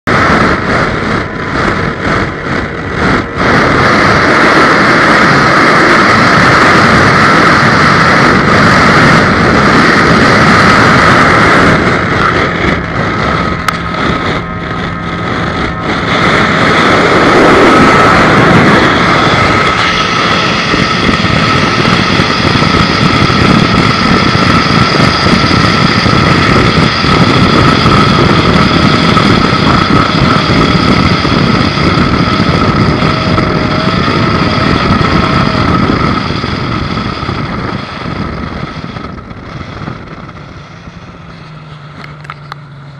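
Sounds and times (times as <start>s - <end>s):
outboard motor whining: 0.0s - 42.9s
wind and water rushing: 0.0s - 42.9s.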